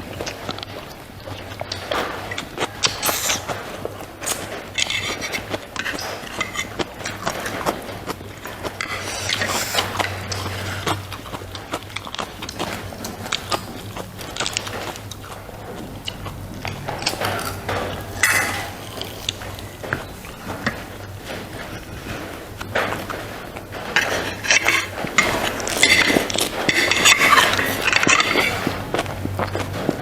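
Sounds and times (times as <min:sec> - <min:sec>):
food being chewed and crunched: 0:00.0 - 0:30.0
steady low hum: 0:00.0 - 0:30.0.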